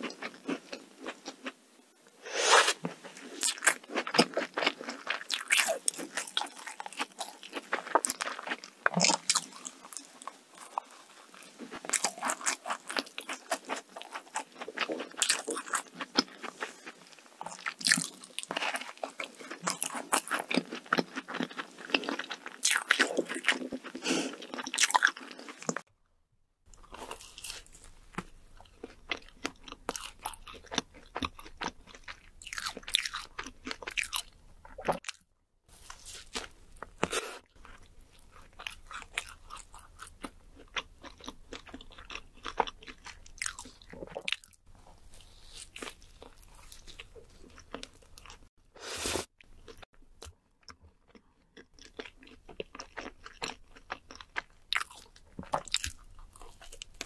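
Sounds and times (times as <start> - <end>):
person biting and chewing: 2.5 - 11.0, 11.7 - 25.8, 26.7 - 35.2, 35.9 - 44.6, 51.1 - 57.0.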